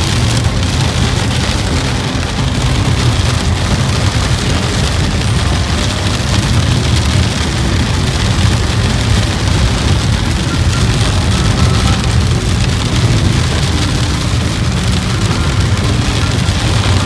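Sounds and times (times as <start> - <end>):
car road rumble: 0.0 - 17.0
heavy rain on a car: 0.0 - 17.0.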